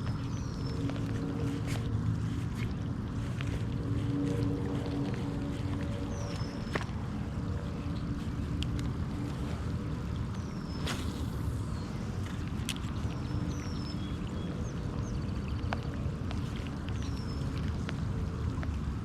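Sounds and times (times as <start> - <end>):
creek water rushing: 0.0 - 19.0
songbird chirps: 0.0 - 19.0.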